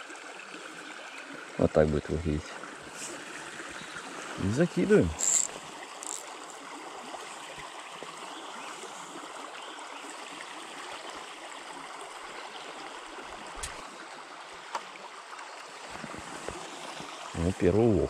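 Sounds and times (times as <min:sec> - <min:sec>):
forest stream flowing: 0:00.0 - 0:18.0.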